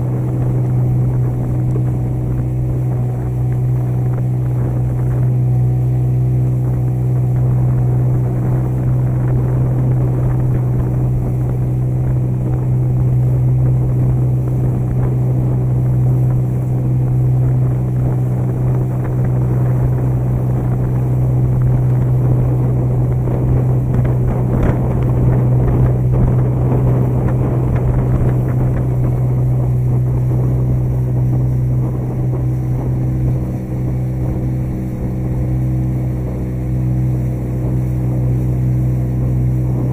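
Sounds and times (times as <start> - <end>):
motorboat engine droning: 0.0 - 39.9.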